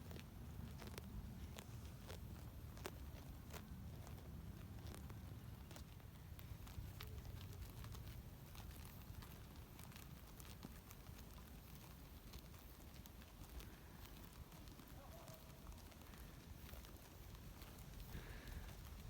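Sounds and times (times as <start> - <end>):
deer chewing grass: 0.0 - 19.0
low steady rumble: 0.0 - 19.0.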